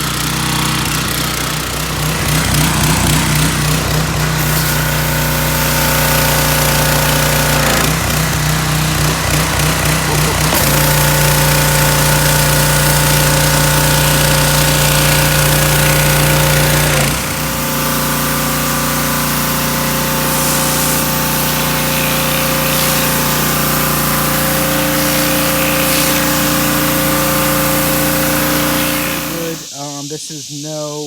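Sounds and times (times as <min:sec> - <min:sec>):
pressure washer engine running: 0:00.0 - 0:29.7
water hissing onto concrete: 0:00.0 - 0:31.0.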